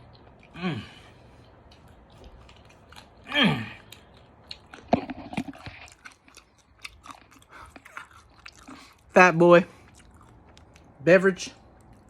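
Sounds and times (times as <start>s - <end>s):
person chewing food: 0.0s - 11.0s, 11.6s - 12.0s.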